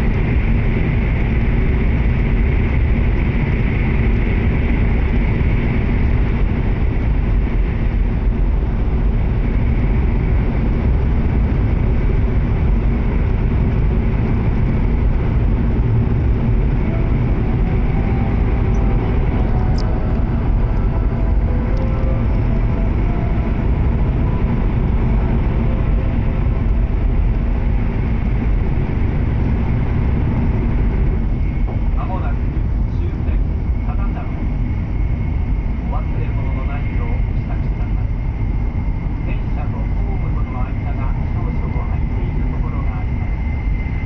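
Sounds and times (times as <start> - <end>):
train running rumble in cabin: 0.0 - 44.0.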